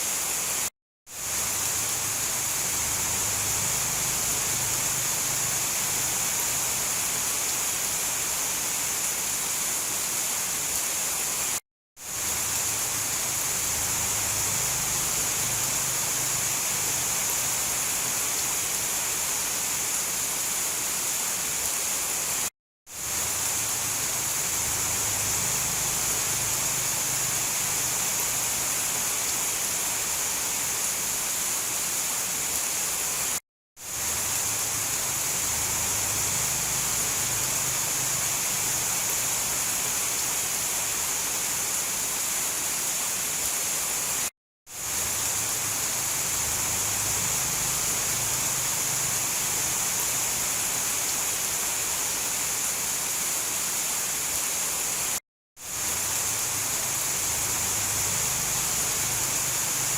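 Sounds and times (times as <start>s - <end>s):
dense rain hiss: 0.0s - 59.9s.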